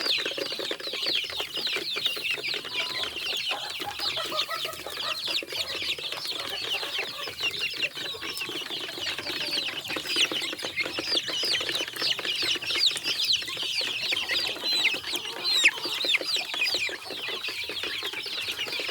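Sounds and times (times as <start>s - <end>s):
chickens peeping and clucking: 0.0s - 18.9s.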